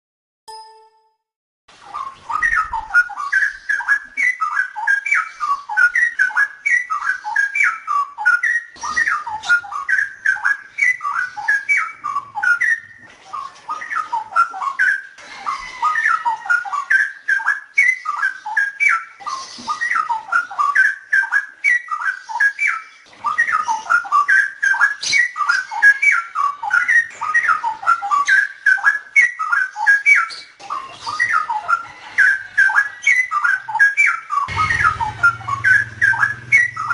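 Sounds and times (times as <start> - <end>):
bird singing whistled phrases: 1.8 - 36.9.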